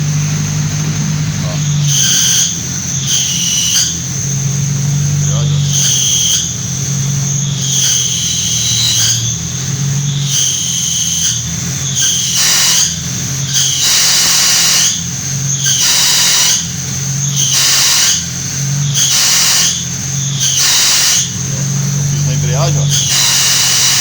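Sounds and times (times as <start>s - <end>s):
car engine idling: 0.0s - 24.0s
clutch squealing: 0.0s - 24.0s.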